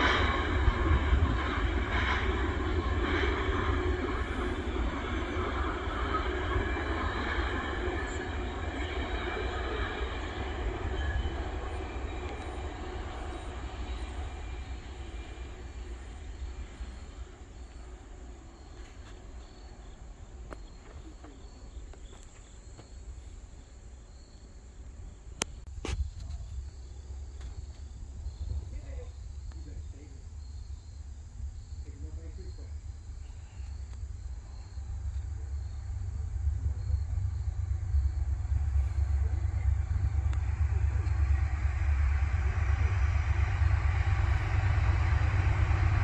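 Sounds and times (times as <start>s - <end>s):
crickets chirping: 0.0s - 46.0s
freight train cars rolling: 0.0s - 46.0s.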